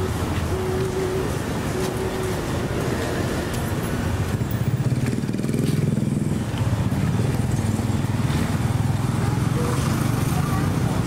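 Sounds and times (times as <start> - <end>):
street hum: 0.0 - 11.0.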